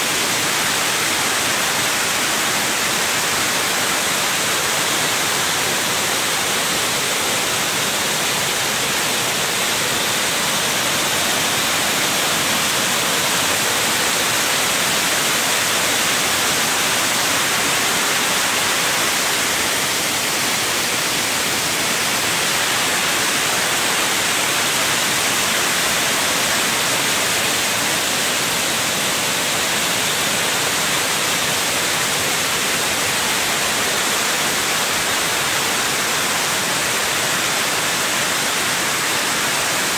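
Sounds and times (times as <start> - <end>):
water rushing over spillway: 0.0 - 39.9.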